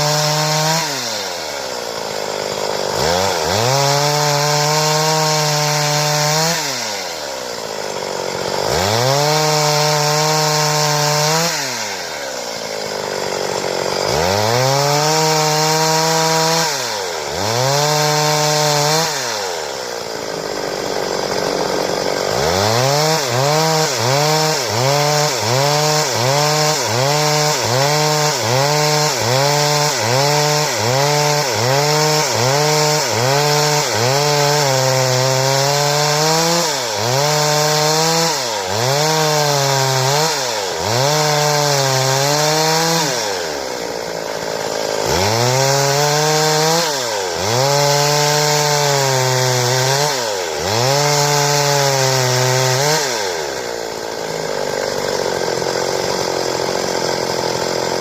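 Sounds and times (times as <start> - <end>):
chainsaw cutting boards: 0.0 - 58.0.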